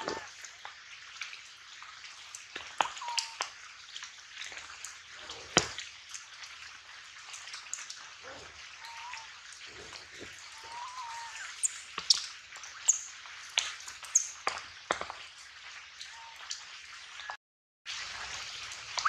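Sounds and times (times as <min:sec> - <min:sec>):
outdoor ambience: 0:00.0 - 0:19.0.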